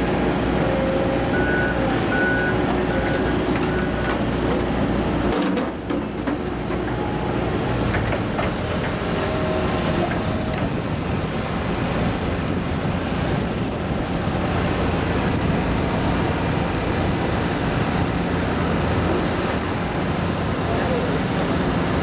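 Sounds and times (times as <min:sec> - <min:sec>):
excavator diesel and hydraulics: 0:00.0 - 0:22.0.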